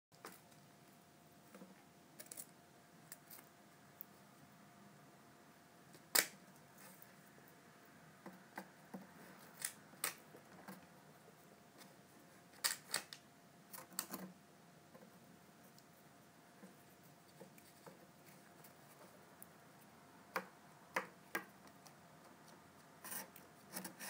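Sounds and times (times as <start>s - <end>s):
faint steady hum: 0.1s - 24.0s.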